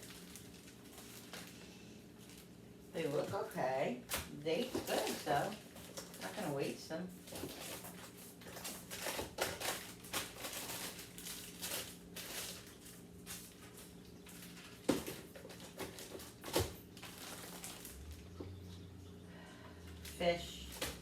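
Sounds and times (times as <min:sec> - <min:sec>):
plastic packaging crinkling: 0:00.0 - 0:03.6, 0:04.6 - 0:18.4.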